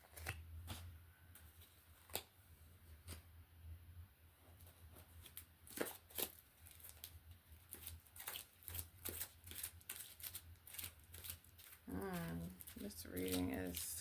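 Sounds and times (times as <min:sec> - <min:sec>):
cards being shuffled: 0:00.0 - 0:02.4, 0:04.6 - 0:14.0.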